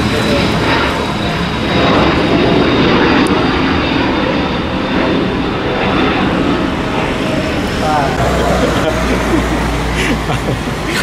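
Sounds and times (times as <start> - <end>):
high whine: 0.0 - 11.0
jet engine roar: 0.0 - 11.0.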